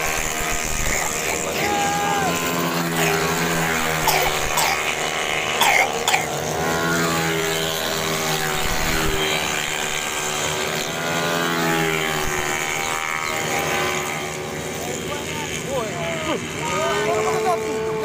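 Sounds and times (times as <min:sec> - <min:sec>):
scooter engines revving: 0:00.0 - 0:18.0.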